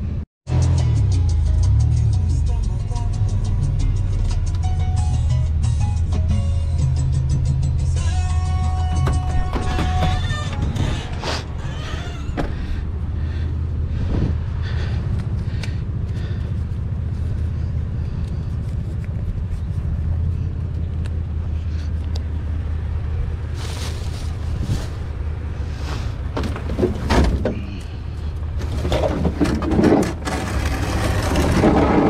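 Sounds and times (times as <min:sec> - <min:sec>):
truck engine idling: 0:01.2 - 0:32.0.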